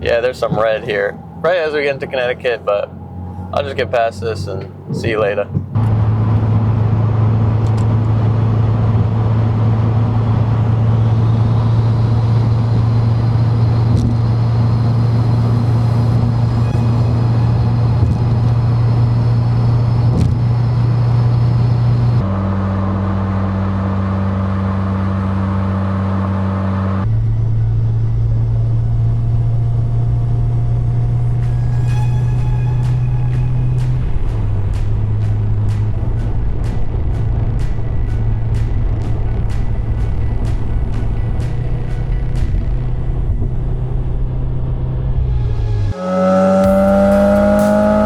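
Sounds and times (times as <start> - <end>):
car engine and exhaust drone: 0.0 - 48.0
tyre and road noise: 0.0 - 48.0.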